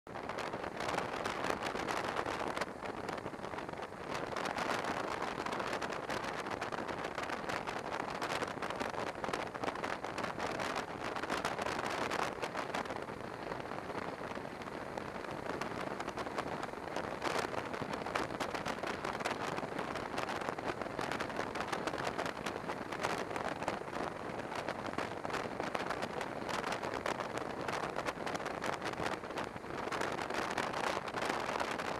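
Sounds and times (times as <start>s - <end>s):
wind buffeting microphone: 0.1s - 31.9s.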